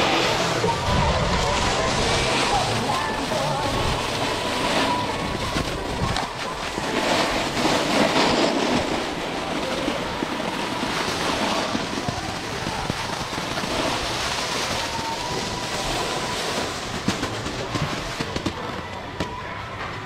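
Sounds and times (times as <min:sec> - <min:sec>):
snowboard scraping on snow: 0:00.0 - 0:18.4.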